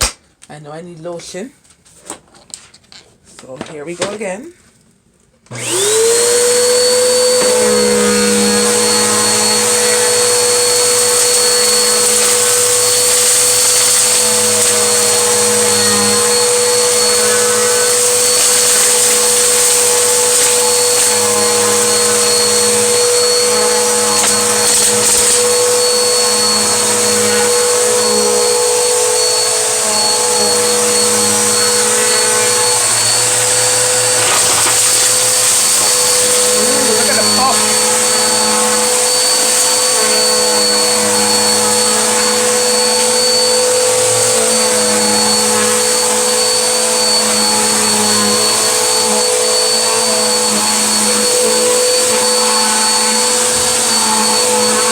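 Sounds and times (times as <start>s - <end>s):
vacuum cleaner motor whining: 5.5s - 54.9s
vacuum sucking up dirt: 5.5s - 54.9s.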